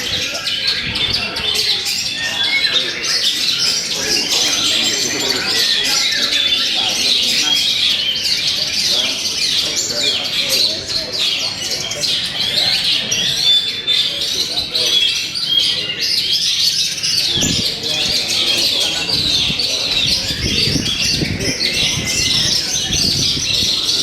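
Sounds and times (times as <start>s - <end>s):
murmur of crowd voices: 0.0s - 24.0s
songbirds chorus: 0.0s - 24.0s.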